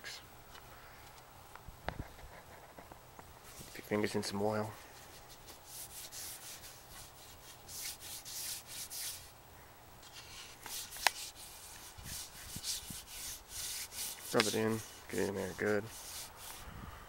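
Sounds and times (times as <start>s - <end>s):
hand rubbing wood: 2.0s - 9.4s, 10.0s - 16.7s.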